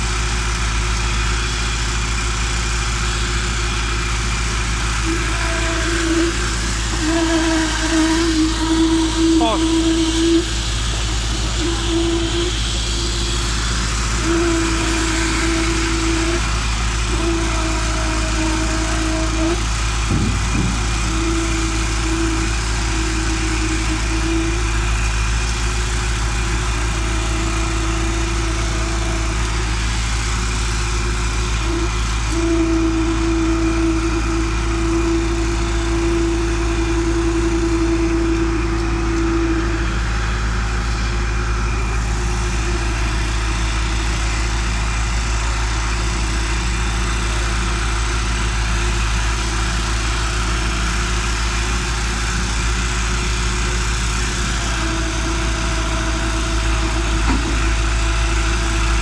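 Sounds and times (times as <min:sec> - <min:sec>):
concrete pump engine running: 0:00.0 - 0:59.0.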